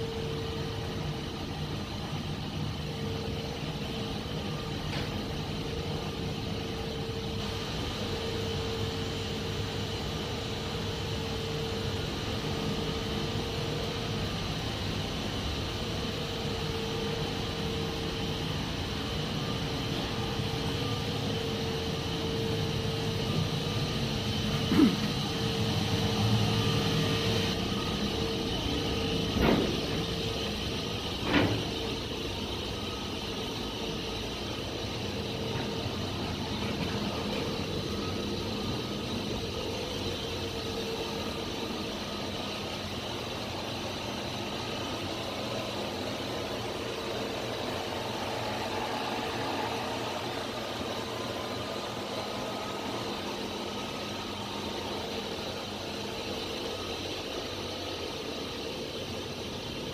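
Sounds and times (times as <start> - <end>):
machinery humming with steady tones: 0.0 - 59.9.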